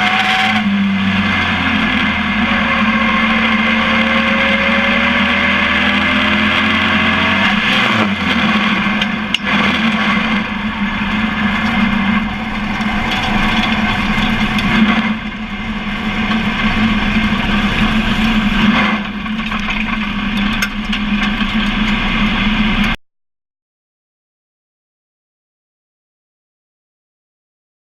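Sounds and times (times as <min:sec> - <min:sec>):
truck engine drone: 0:00.0 - 0:23.0
wind and road noise: 0:00.0 - 0:23.0.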